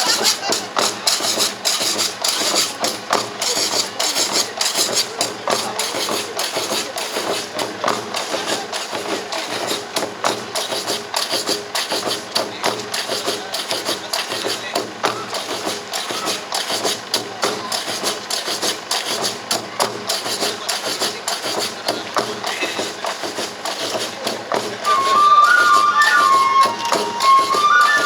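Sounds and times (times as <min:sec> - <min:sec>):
drums in fast rhythm: 0:00.0 - 0:28.0.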